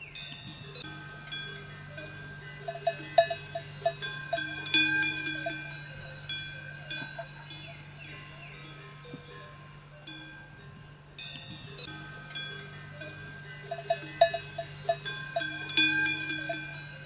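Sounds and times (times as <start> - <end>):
bells clanking: 0.0 - 17.0.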